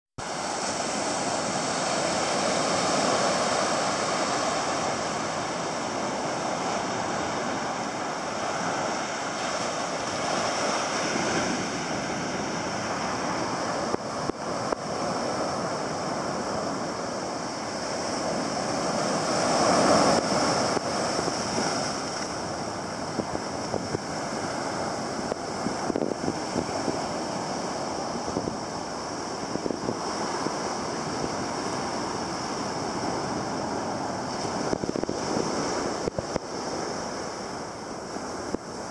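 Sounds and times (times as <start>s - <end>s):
waves washing up a sandy beach: 0.2s - 38.9s.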